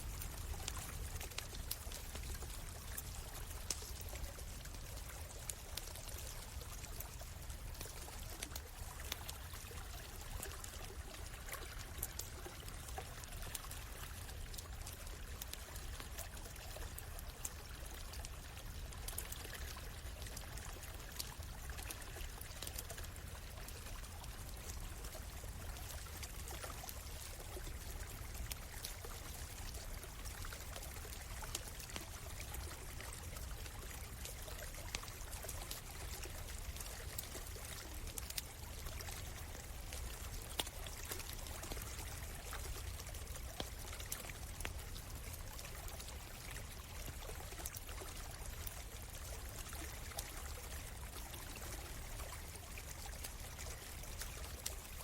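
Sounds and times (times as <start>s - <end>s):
campfire crackling and popping: 0.0s - 55.0s
stream trickling: 0.0s - 55.0s.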